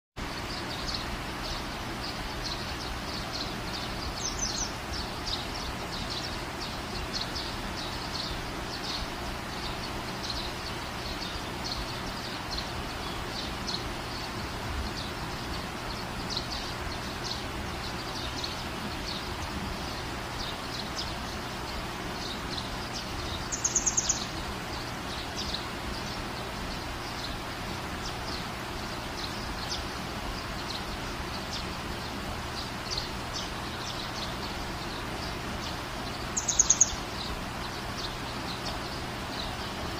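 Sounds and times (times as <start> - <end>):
small birds chirping: 0.2 - 39.9
steady background hiss: 0.2 - 39.9.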